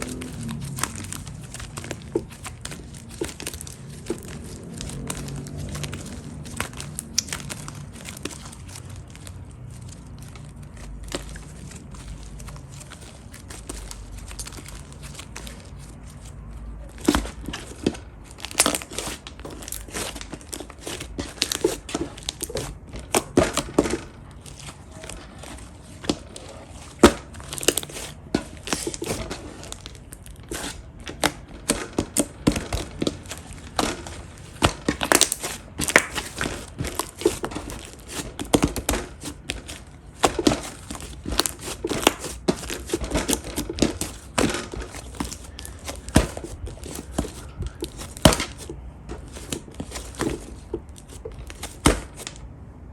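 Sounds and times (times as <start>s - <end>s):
slime squished by hand: 0.0s - 52.4s.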